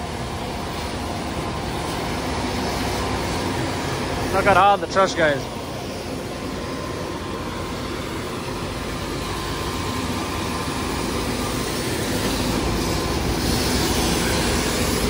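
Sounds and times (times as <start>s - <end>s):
truck engine and pump droning: 0.0s - 15.0s.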